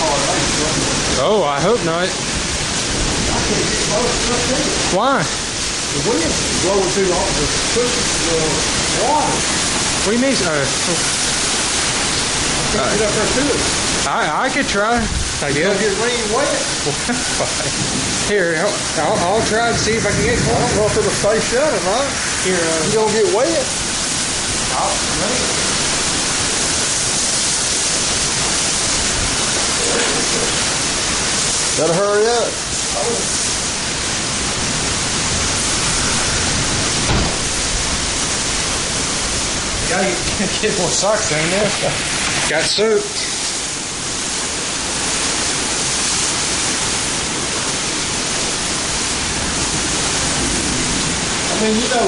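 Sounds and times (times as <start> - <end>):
heavy rain pouring: 0.0 - 52.0
strong wind: 0.0 - 52.0.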